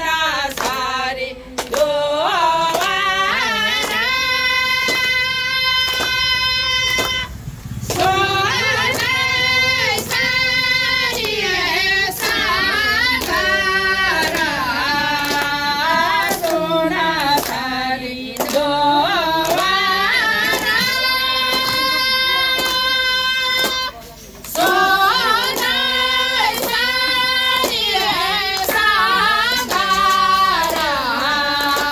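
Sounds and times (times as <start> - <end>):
women singing together: 0.0 - 31.9
hand claps: 0.3 - 31.9.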